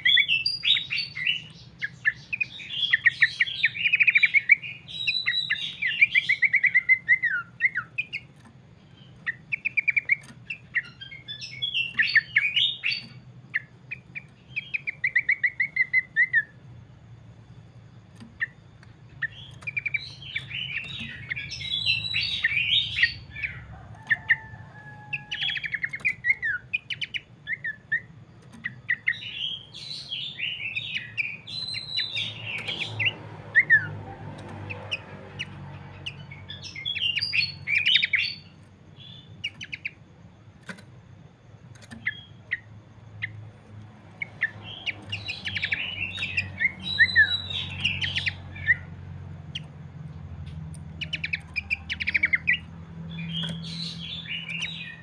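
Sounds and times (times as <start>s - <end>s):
bird chattering song with trills: 0.0s - 55.0s.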